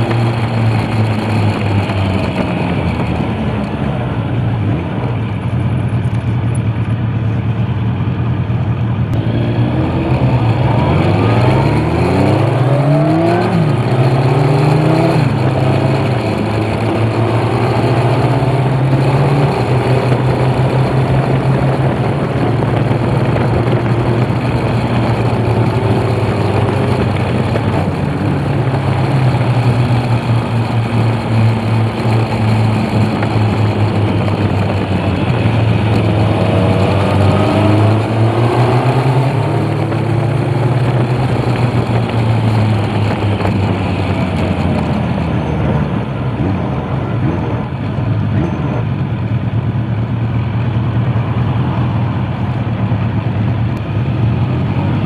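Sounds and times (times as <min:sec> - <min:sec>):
motorcycle engines accelerating: 0:00.0 - 0:55.0.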